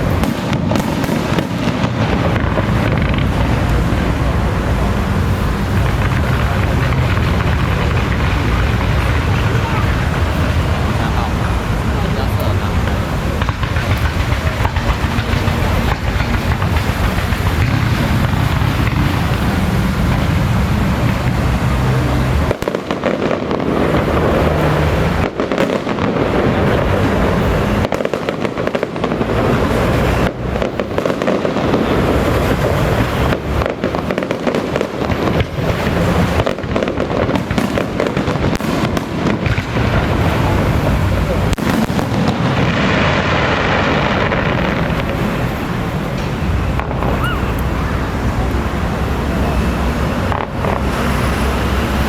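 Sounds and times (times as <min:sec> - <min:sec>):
fireworks crackling: 0:00.0 - 0:52.0.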